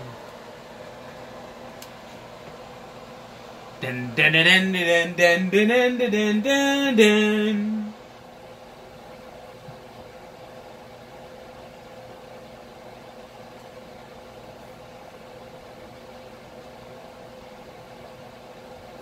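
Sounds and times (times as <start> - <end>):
constant hiss: 0.0 - 19.0
machine hum: 0.0 - 19.0.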